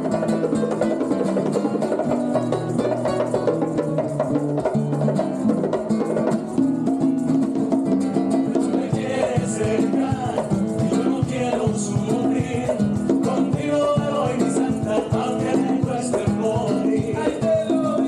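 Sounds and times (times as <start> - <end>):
live band playing latin music: 0.0 - 18.0.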